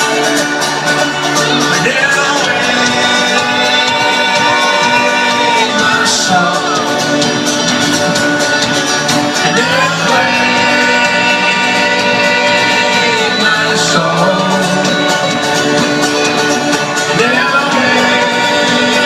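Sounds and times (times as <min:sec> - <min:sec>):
strummed acoustic guitars: 0:00.0 - 0:19.0
voices singing without words: 0:00.0 - 0:19.0.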